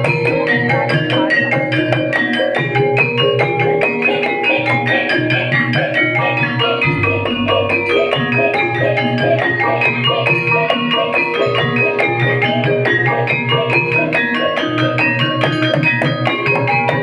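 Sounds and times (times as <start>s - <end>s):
mallet percussion ensemble music: 0.0s - 17.0s.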